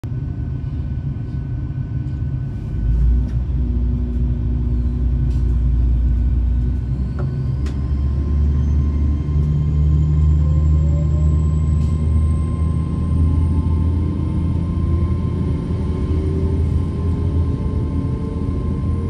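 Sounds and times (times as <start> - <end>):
train diesel engine rumble: 0.0 - 19.0.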